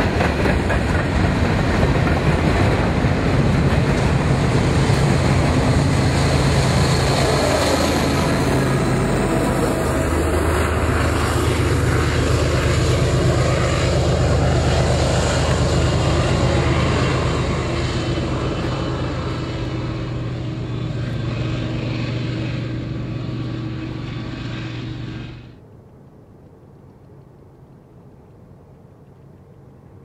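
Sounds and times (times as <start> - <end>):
train wheels on rails: 0.0 - 25.6
locomotive engine hum: 0.0 - 30.0.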